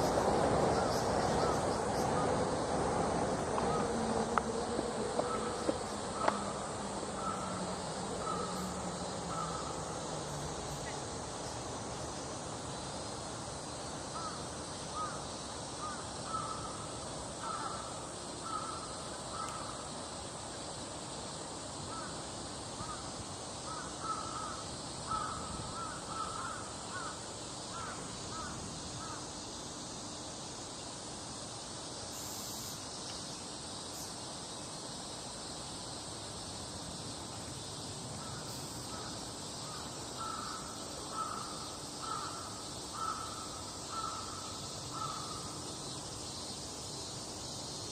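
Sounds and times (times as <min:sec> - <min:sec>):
steady background hiss: 0:00.0 - 0:47.9.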